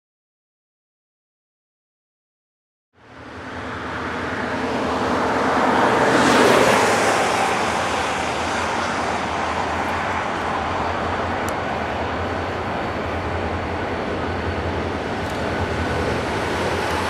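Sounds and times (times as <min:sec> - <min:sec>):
low engine drone: 0:03.0 - 0:17.0.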